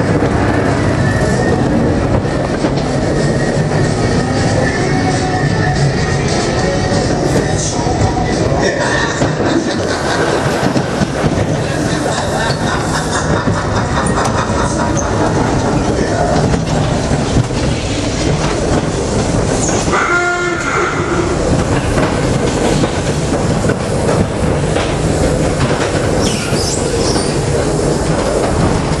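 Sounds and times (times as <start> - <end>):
ride car rumbling on track: 0.0 - 29.0.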